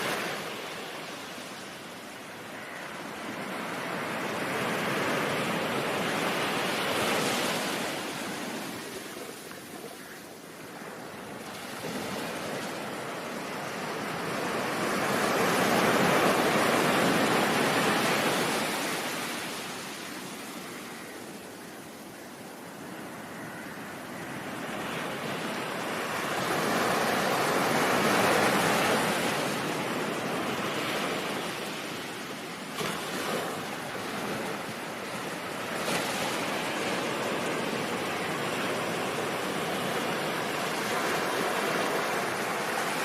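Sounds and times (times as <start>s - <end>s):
ocean waves rushing: 0.0s - 21.1s, 24.5s - 43.0s.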